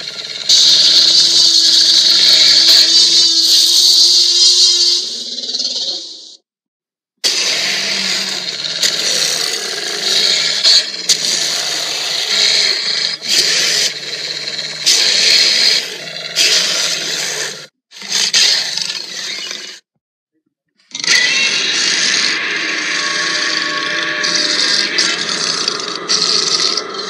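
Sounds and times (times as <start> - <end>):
monster roaring: 0.0 - 6.3, 7.2 - 19.8, 20.9 - 27.0.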